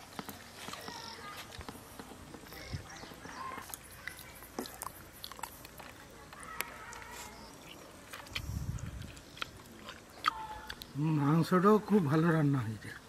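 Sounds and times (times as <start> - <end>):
people chewing: 0.0 - 11.6.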